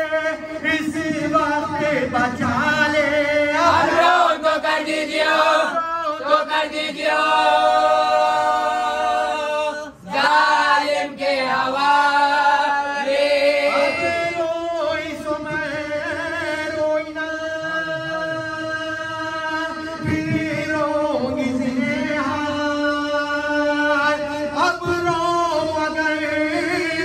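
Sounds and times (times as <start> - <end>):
voices chanting a mourning lament: 0.0 - 27.0.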